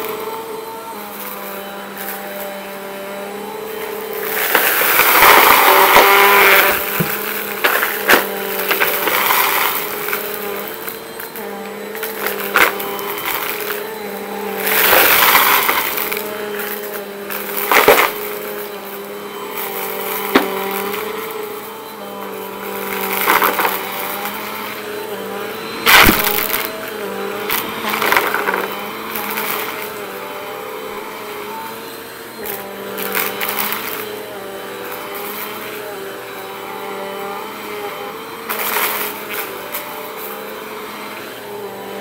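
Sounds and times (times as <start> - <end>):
debris crunching in vacuum: 0.0 - 42.0
vacuum cleaner running: 0.0 - 42.0.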